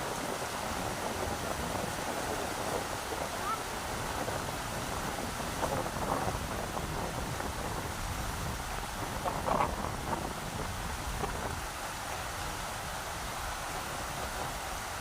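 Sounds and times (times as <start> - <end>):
rushing river water: 0.0 - 15.0
wind buffeting microphone: 0.0 - 15.0.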